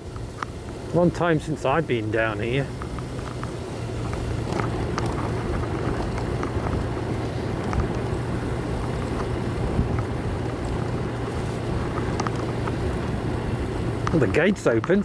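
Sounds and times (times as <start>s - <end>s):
motorcycle engine running: 0.0s - 15.0s
wind noise: 1.6s - 15.0s
faint clicks: 2.7s - 15.0s.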